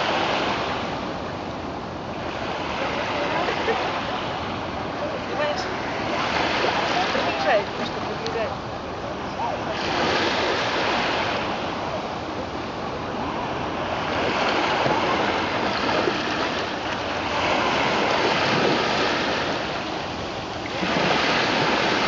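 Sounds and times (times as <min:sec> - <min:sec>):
waves washing onto shore: 0:00.0 - 0:22.0.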